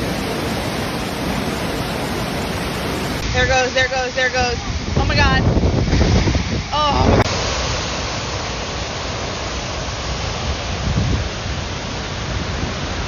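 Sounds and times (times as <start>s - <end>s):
storm water rushing: 0.0s - 13.0s.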